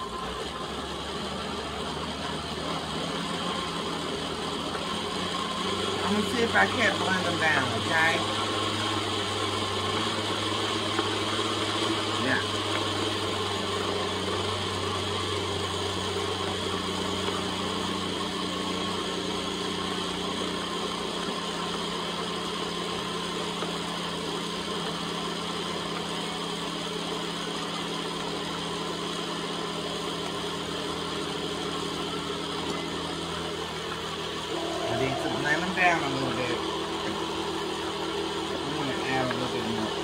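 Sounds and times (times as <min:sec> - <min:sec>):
blender motor running: 0:00.0 - 0:40.0.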